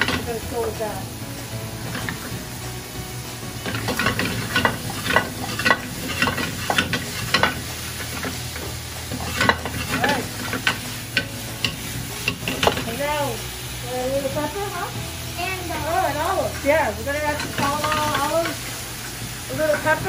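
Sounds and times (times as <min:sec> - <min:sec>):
tongs clinking and scraping pan: 0:00.0 - 0:14.8, 0:15.4 - 0:20.0
vegetables sizzling in oil: 0:00.0 - 0:20.0.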